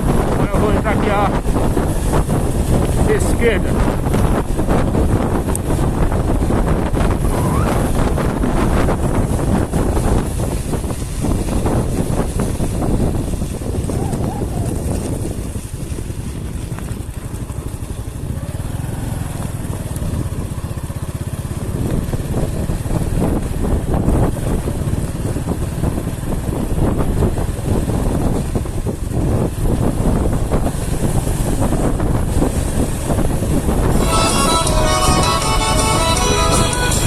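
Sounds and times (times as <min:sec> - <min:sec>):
vehicle engine and road rumble: 0:00.0 - 0:37.0
wind buffeting microphone: 0:00.0 - 0:37.0.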